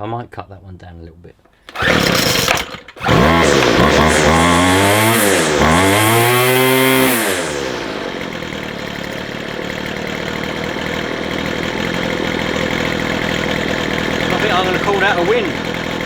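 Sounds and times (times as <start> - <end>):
strimmer engine revving and idling: 1.7 - 16.0.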